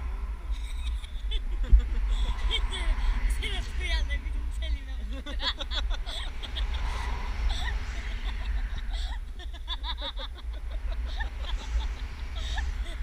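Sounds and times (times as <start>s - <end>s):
wind buffeting microphone: 0.0s - 13.0s
girl laughing: 0.5s - 3.4s, 5.0s - 13.0s.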